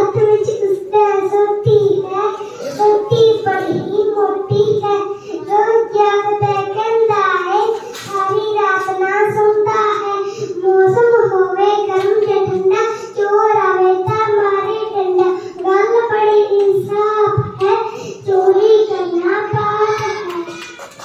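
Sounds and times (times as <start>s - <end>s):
boy singing into a microphone: 0.0s - 20.8s.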